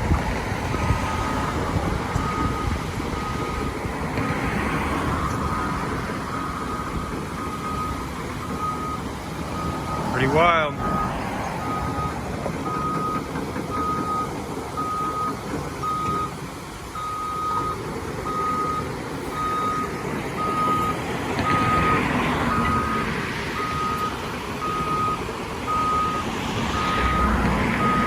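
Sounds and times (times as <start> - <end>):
engine rumble: 0.0 - 28.0
backup alarm beeping: 0.7 - 28.0.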